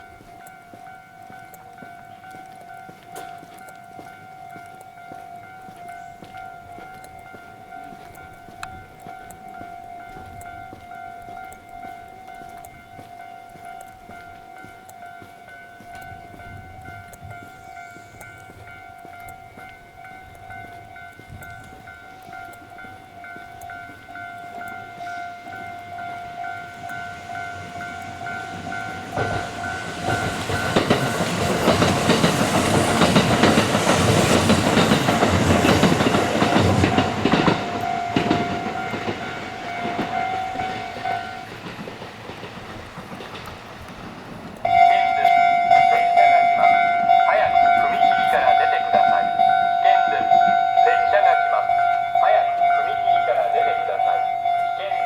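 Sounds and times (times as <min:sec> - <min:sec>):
level crossing bell ringing: 0:00.0 - 0:31.4, 0:35.2 - 0:41.6, 0:44.6 - 0:55.0
train passing: 0:00.0 - 0:55.0
train wheels clacking on rails: 0:00.0 - 0:55.0.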